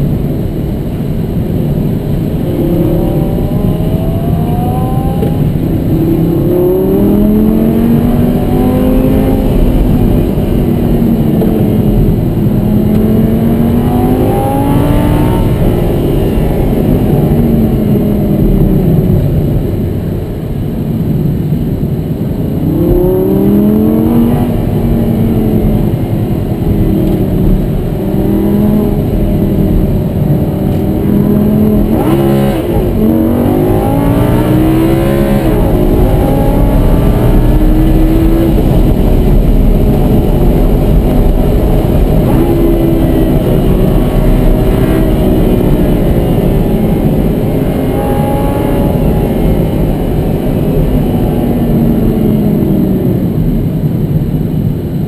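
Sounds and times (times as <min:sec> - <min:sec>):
car engine revving from inside cabin: 0:02.3 - 0:19.2, 0:22.7 - 0:53.2.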